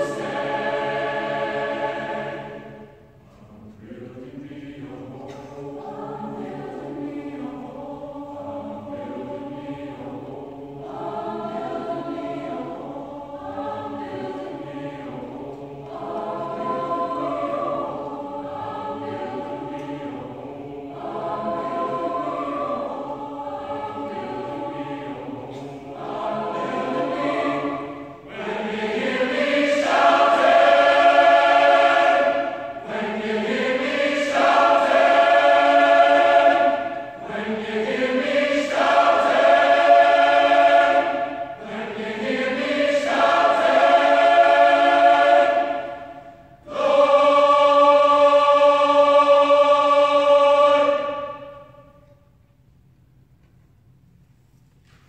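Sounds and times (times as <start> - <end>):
boys' choir singing: 0.0 - 52.0.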